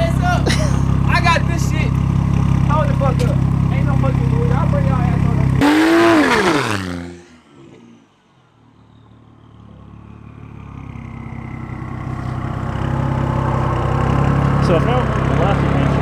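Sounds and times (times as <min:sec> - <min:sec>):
engine approaching: 0:00.0 - 0:07.8, 0:09.2 - 0:16.0
car passing at full throttle: 0:00.0 - 0:08.3, 0:09.5 - 0:16.0.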